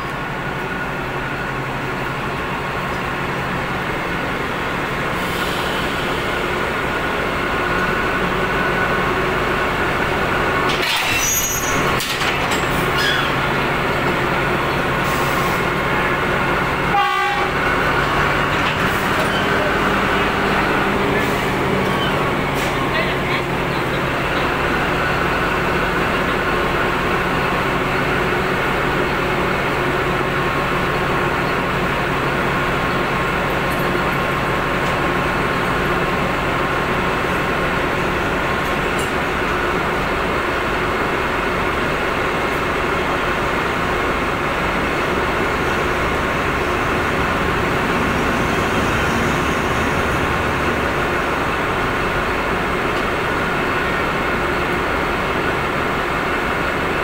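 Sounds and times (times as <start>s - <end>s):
locomotive engine idling: 0.0s - 57.0s.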